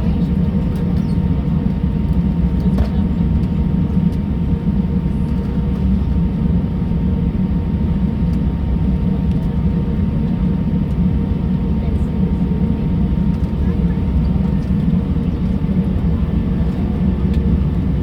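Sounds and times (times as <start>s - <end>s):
aircraft cabin low rumble: 0.0s - 18.0s.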